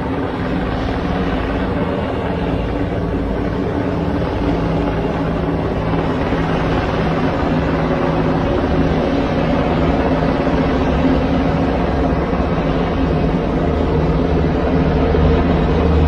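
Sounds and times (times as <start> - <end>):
aircraft engine droning: 0.0 - 16.0.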